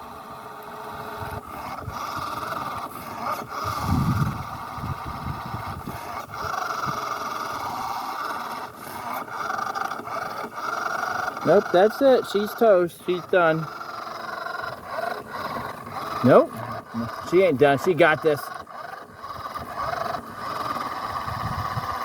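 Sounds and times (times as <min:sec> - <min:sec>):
small electric motor whining: 0:00.0 - 0:22.0
wheels spinning in sand: 0:00.0 - 0:22.0.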